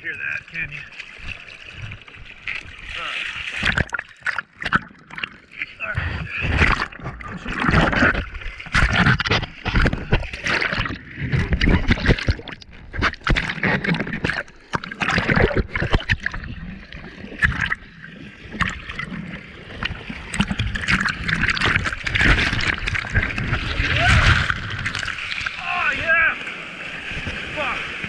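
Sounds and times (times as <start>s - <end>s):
sea water churning and splashing: 0.0s - 28.0s.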